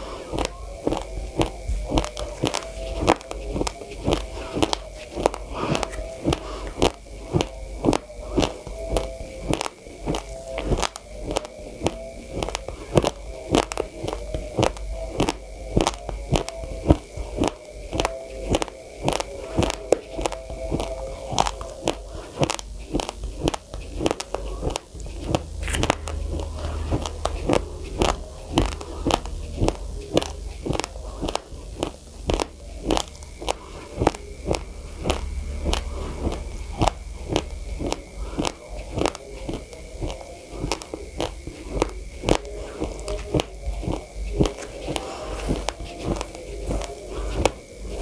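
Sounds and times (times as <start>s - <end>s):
person crunching raw rice: 0.0s - 48.0s.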